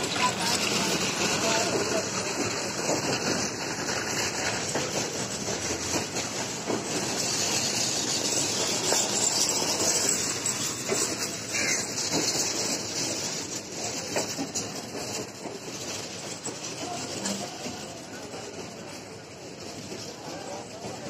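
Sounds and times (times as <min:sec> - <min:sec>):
clicks over rail joints: 0:00.0 - 0:21.0
train wheels rumbling and rattling: 0:00.0 - 0:21.0.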